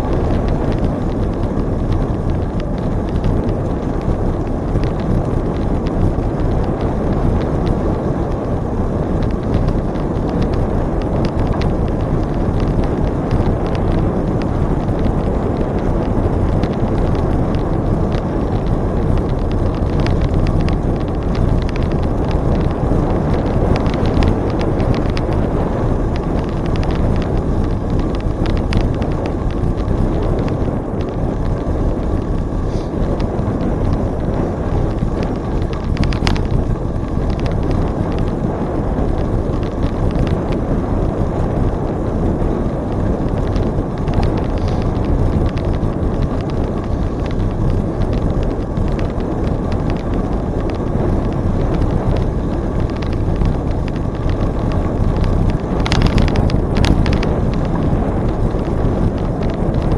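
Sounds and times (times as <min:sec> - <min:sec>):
bicycle clicks and rattles: 0:00.0 - 0:59.9
wind on microphone: 0:00.0 - 0:59.9.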